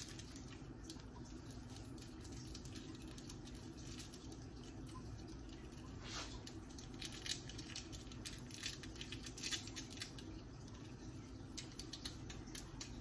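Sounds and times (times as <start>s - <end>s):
low steady hum: 0.0s - 13.0s
seasoning crumbled between fingers: 0.0s - 13.0s.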